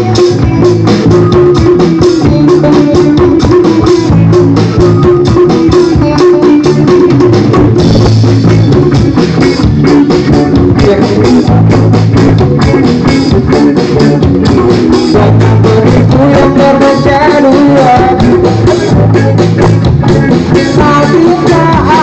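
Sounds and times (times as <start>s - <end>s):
drum kit beat: 0.0s - 22.0s
electric guitars: 0.0s - 22.0s.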